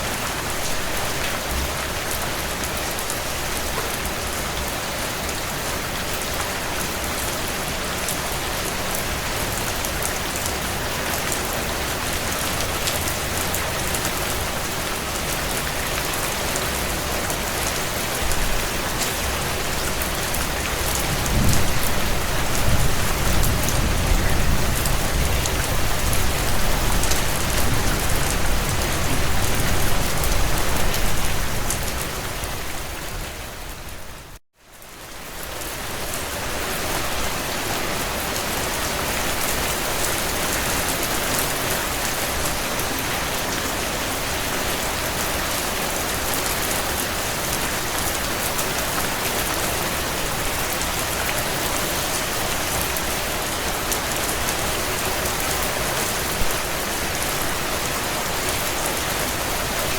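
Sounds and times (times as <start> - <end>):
heavy rain on window panes: 0.2 - 59.9.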